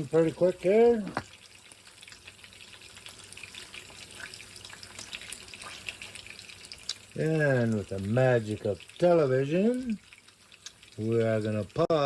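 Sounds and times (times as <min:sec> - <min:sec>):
soup bubbling in a pot: 0:00.0 - 0:12.0.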